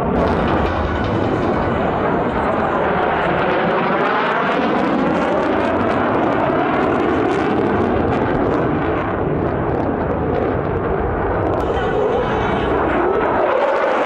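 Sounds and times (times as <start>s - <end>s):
jet engine roaring overhead: 0.0s - 14.0s.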